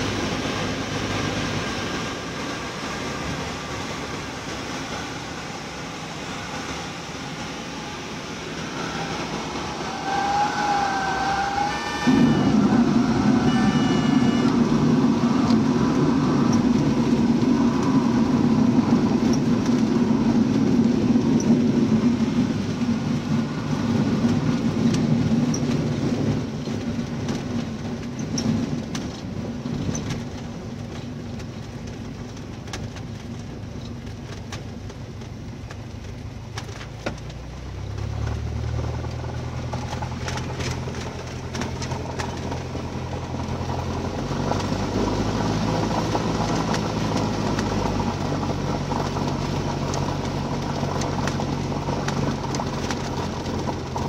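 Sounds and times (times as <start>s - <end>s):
airplane engine drone: 0.0s - 33.1s, 37.4s - 54.0s
wheels rolling on grass: 8.4s - 54.0s.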